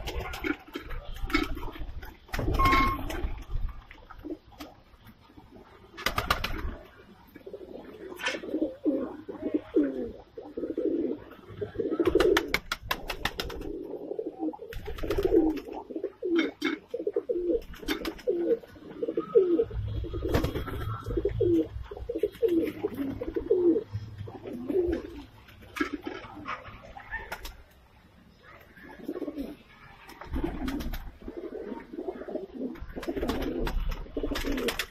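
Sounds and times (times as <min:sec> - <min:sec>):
pigeons cooing: 0:00.0 - 0:27.6, 0:28.4 - 0:34.9.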